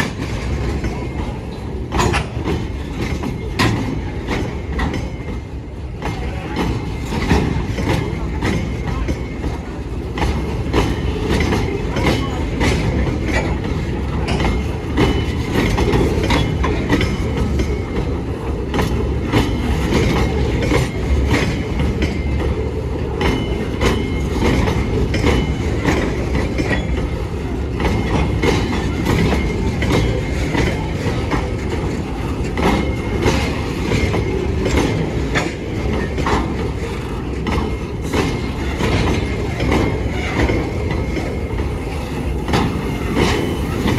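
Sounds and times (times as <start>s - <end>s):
freight train rumbling past: 0.0s - 43.9s
wheels clanking over rail joints: 0.0s - 43.9s.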